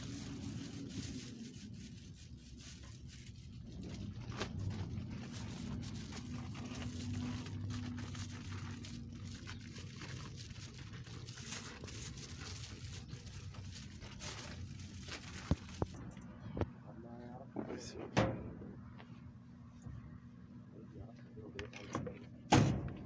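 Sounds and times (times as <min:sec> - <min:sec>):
crinkling and rustling handling: 0:00.0 - 0:17.9, 0:21.0 - 0:23.0
steady low hum: 0:00.0 - 0:23.0.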